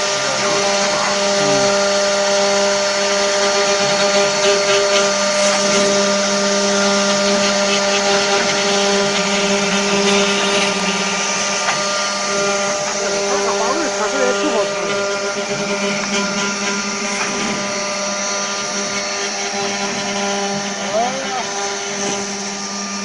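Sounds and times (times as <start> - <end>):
wood router spindle whine: 0.0 - 23.0.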